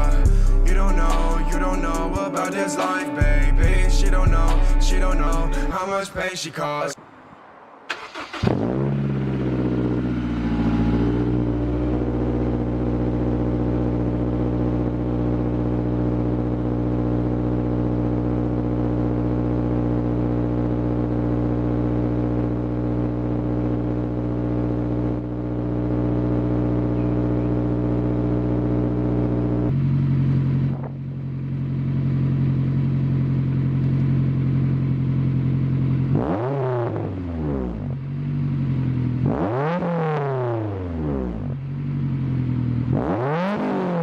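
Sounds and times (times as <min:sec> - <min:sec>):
car engine starting and idling: 0:00.0 - 0:44.0.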